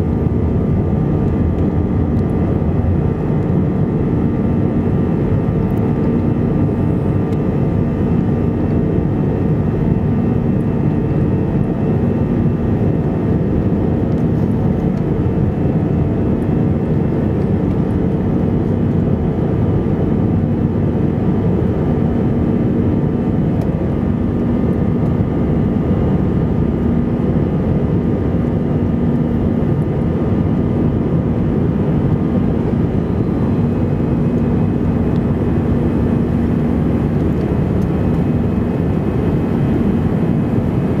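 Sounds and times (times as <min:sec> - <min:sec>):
jet engine and airflow rush: 0:00.0 - 0:41.0
steady hum: 0:00.0 - 0:41.0.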